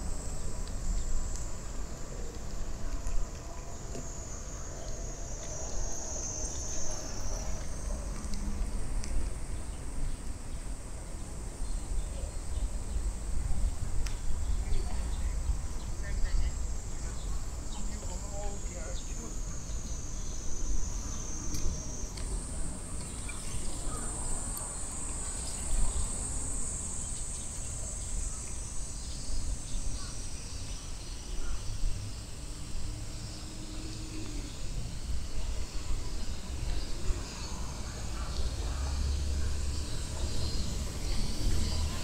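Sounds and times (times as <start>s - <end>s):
cicadas droning: 0.0s - 42.0s.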